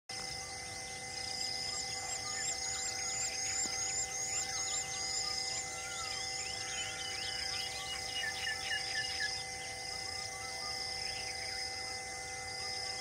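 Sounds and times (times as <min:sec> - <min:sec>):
insects droning: 0:00.1 - 0:13.0
birds chirping: 0:00.3 - 0:11.7.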